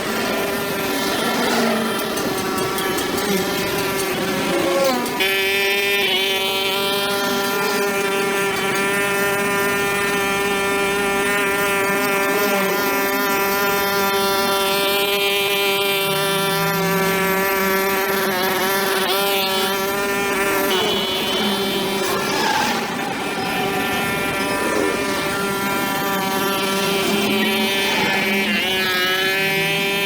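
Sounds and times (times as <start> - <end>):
brush cutter engine running: 0.0 - 30.0.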